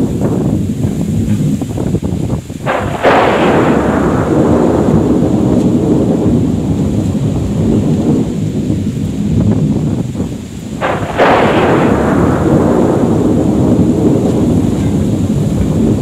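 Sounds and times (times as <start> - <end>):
thunderclap and rumble: 0.0 - 16.0.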